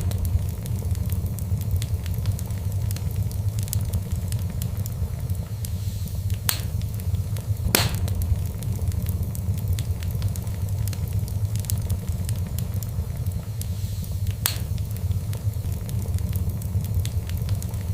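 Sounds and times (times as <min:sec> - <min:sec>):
fire crackling: 0:00.0 - 0:17.9
loud fire pops: 0:00.0 - 0:17.9
low fire rumble: 0:00.0 - 0:17.9.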